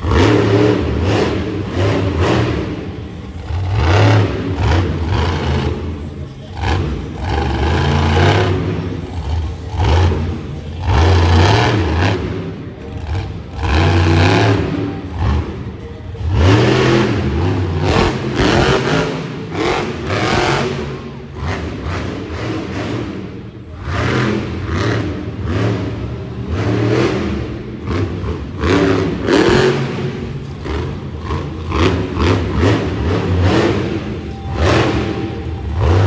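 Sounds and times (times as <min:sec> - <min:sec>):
monster truck engine revving: 0:00.0 - 0:36.0.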